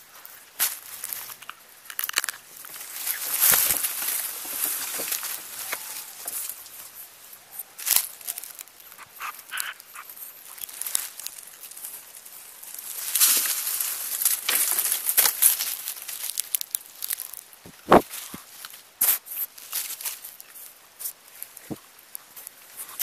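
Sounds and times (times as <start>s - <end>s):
dry leaves rustling and crackling: 0.0s - 23.0s.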